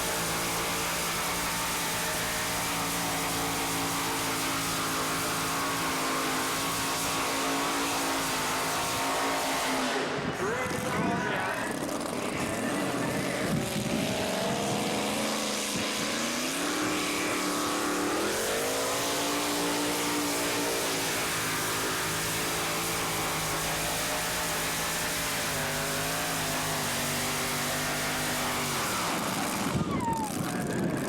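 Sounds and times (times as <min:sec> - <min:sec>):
tractor engine racing: 0:00.0 - 0:31.0.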